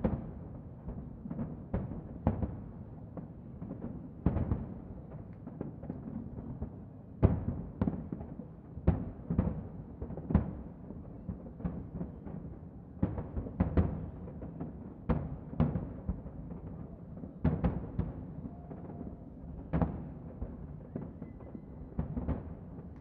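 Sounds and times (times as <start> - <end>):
distant fireworks bursting: 0.0 - 23.0.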